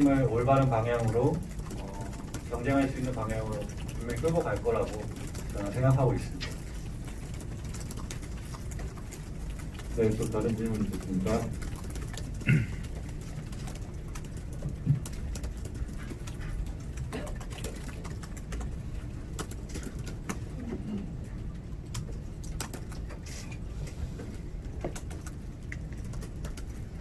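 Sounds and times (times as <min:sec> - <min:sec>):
laptop keyboard typing: 0:00.0 - 0:27.0
room background hum: 0:00.0 - 0:27.0.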